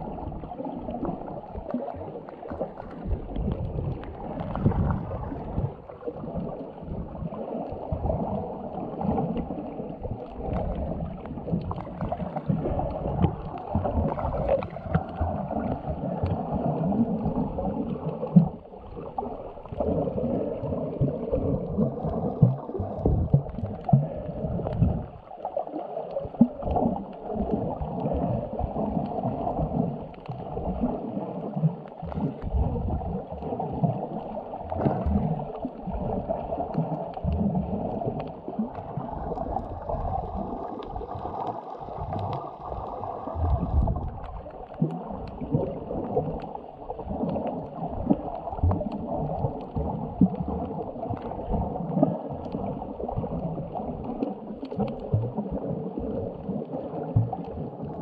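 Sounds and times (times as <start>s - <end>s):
underwater water sloshing: 0.0s - 58.0s.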